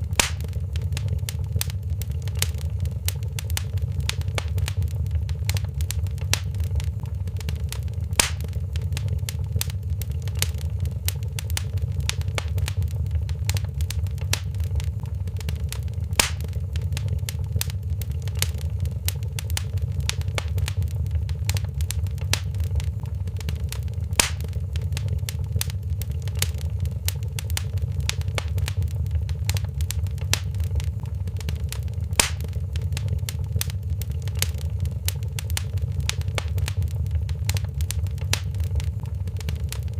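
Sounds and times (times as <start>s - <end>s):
fire crackling: 0.0s - 39.9s
fire low rumble: 0.0s - 39.9s
fire popping: 0.0s - 39.9s.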